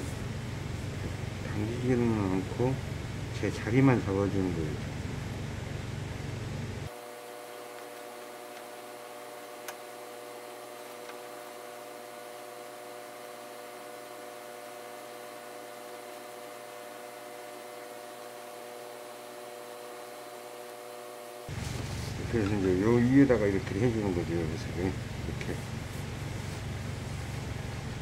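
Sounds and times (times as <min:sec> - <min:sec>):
steady hum of held tones: 0:00.0 - 0:28.0.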